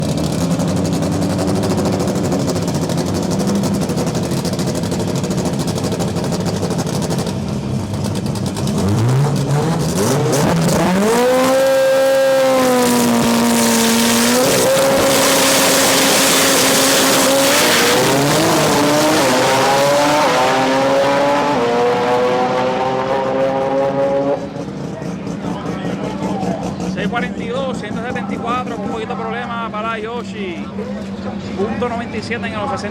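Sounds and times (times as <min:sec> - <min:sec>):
drag car engine revving: 0:00.0 - 0:32.9.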